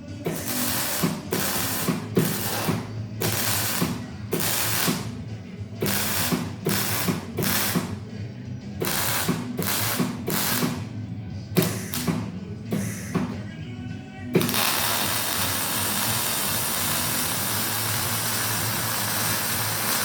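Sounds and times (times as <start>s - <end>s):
welding arc crackling: 0.0s - 8.0s, 8.8s - 10.9s, 11.6s - 13.3s, 14.4s - 20.0s
faint background music: 0.0s - 20.0s.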